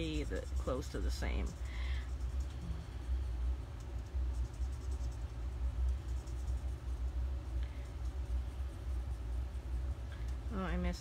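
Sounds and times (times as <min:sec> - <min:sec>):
marker scratching on paper: 0:00.0 - 0:10.0.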